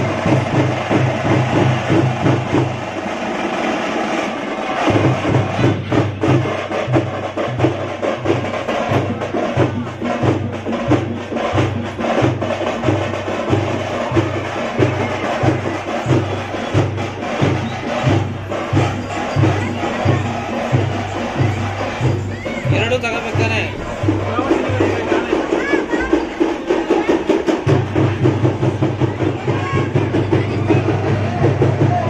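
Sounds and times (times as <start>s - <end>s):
frame drums beaten with sticks: 0.0s - 32.0s.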